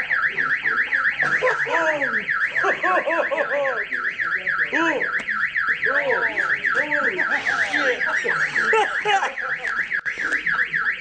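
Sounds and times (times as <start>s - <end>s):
car alarm siren warbling: 0.0s - 11.0s.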